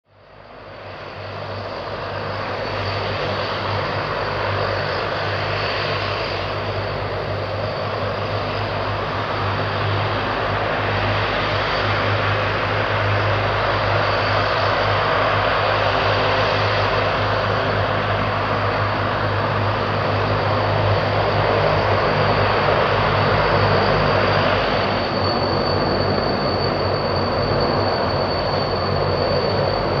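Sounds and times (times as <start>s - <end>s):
turboprop engines droning: 0.1s - 30.0s.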